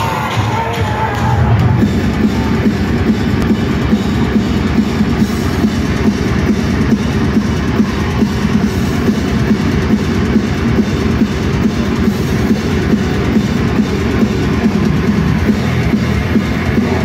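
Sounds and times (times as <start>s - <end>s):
fast driving drums: 0.0s - 17.0s
heavy distorted guitars: 0.0s - 17.0s
metal band playing live: 0.0s - 17.0s.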